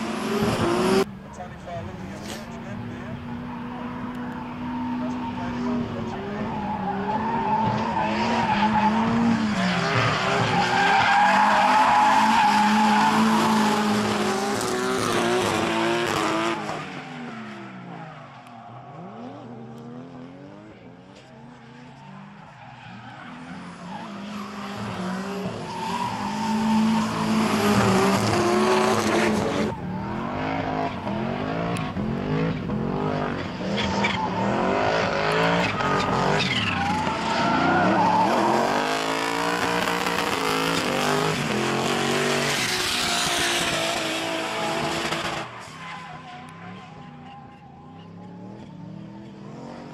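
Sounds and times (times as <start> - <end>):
car engines revving high: 0.0 - 49.9
tyres squealing and skidding: 0.0 - 49.9.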